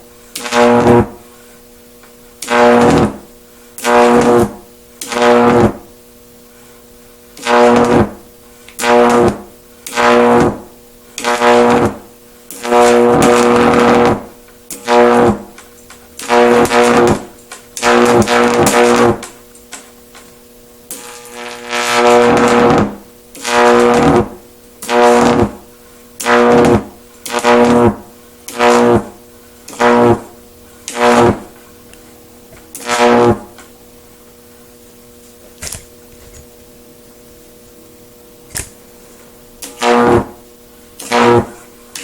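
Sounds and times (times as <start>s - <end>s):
buzzing high-voltage arcs: 0.0s - 42.0s.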